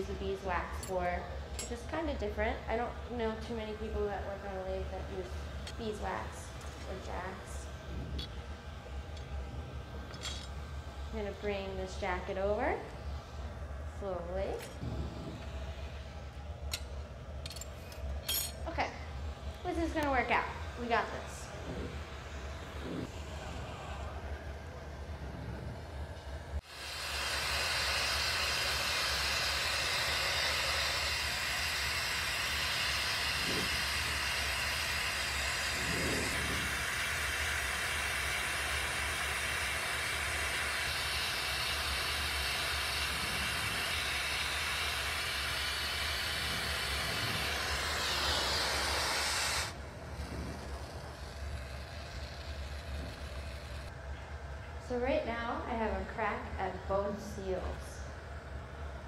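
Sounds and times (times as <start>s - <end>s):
torch flame hissing: 0.0s - 18.2s, 18.8s - 54.0s
low steady hum: 0.0s - 59.0s.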